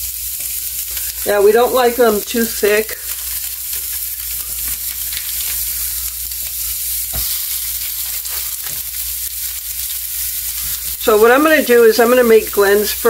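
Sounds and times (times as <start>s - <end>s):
sausage patties sizzling: 0.0s - 13.0s.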